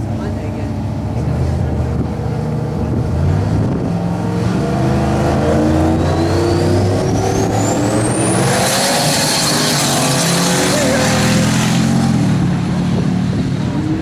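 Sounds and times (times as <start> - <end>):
high turbo whine: 0.0 - 14.0
truck engine running: 0.0 - 14.0.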